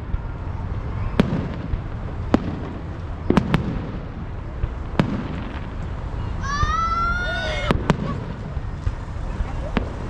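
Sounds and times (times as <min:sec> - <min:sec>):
fireworks bangs: 0:00.0 - 0:10.0
steady low rumble: 0:00.0 - 0:10.0.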